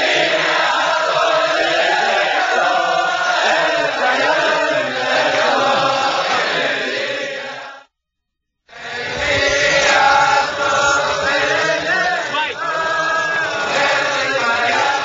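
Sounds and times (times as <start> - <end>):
crowd of men singing: 0.0 - 7.9, 8.7 - 15.0.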